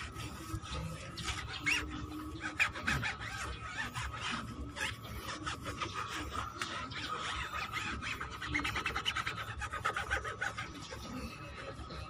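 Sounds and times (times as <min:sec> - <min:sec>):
cloth rubbing on rubber tyre: 0:00.0 - 0:12.0.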